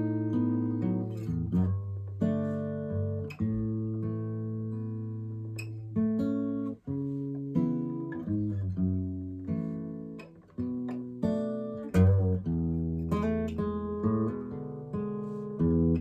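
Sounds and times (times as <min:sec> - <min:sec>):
acoustic guitar picked melody: 0:00.0 - 0:16.0.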